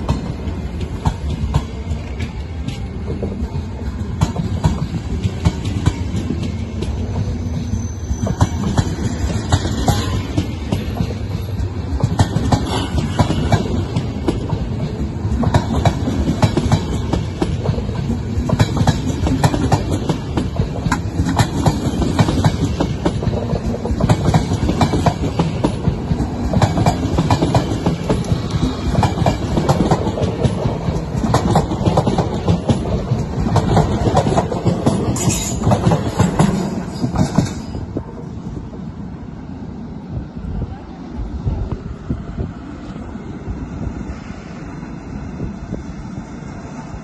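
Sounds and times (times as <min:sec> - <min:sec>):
train wheels clattering over rail joints: 0:00.0 - 0:38.1.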